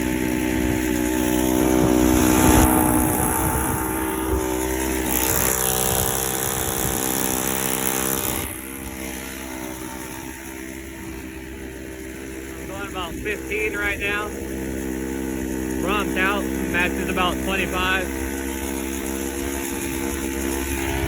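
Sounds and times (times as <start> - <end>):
small engine running steadily: 0.0 - 21.0.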